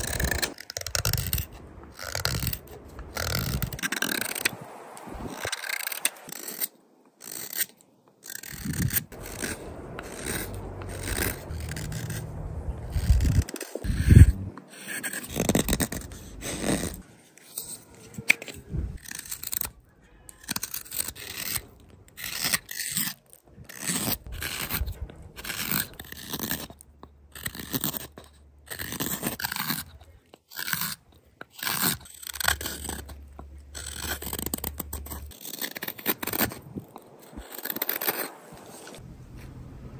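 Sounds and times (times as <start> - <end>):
knife scraping wood: 0.0 - 39.0.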